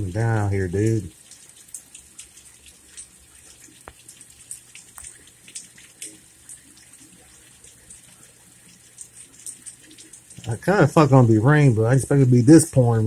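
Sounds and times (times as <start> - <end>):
close drips and splashes: 0.0 - 13.0.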